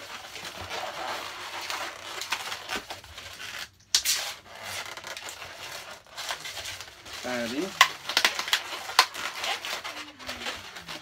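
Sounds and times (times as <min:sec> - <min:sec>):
balloons rubbing and squeaking: 0:00.0 - 0:11.0.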